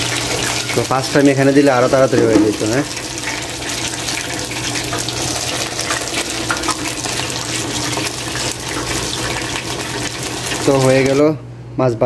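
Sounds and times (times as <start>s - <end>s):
oil bubbling and crackling: 0.0s - 11.3s.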